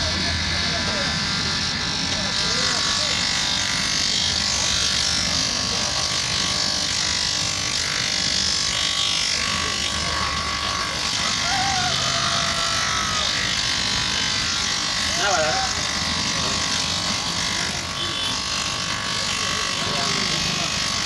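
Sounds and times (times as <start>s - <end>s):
bench grinder motor running: 0.0s - 21.0s
sole grinding on sanding wheel: 2.1s - 21.0s.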